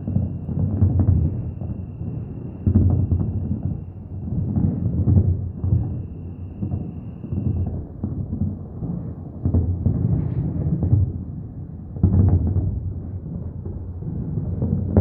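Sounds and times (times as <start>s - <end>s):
fireworks exploding: 0.0s - 11.1s, 12.0s - 15.0s.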